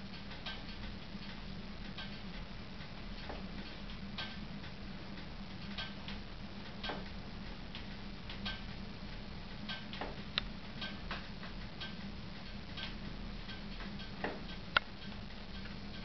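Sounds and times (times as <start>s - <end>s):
steady low hum: 0.0s - 16.0s
wood fire ticking and popping: 0.0s - 16.0s.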